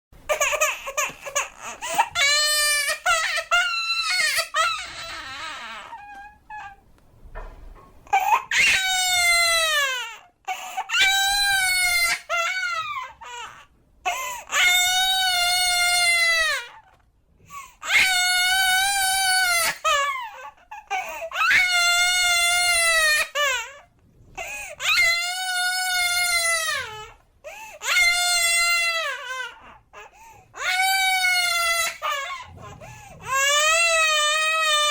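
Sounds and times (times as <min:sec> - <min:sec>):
baby crying: 0:00.3 - 0:06.8, 0:08.1 - 0:34.9.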